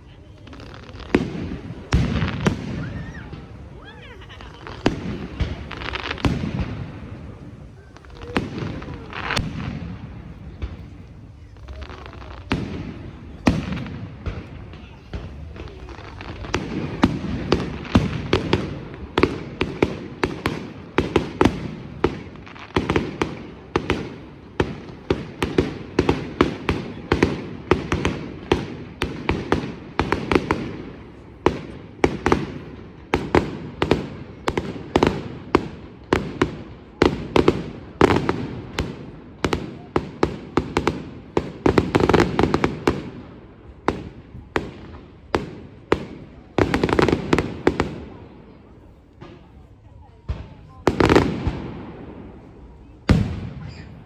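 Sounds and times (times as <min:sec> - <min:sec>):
fireworks bangs with ringing tails: 0:00.2 - 0:54.0.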